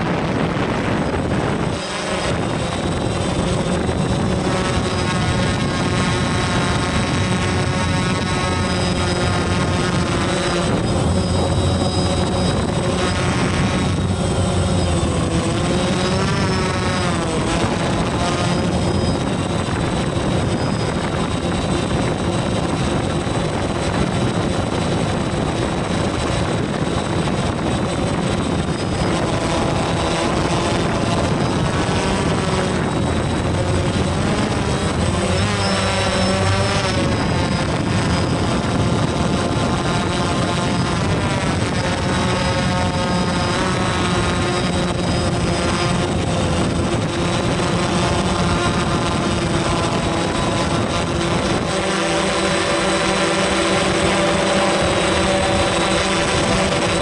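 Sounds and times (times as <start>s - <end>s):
drone propellers whirring: 0.0s - 57.0s.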